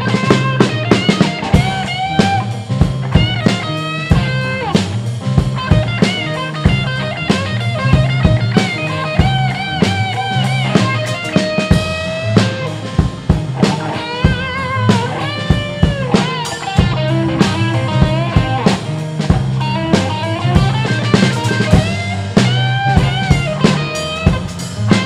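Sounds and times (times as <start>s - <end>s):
bass line: 0.0s - 25.0s
blues lead guitar: 0.0s - 25.0s
drum kit beat: 0.0s - 25.0s.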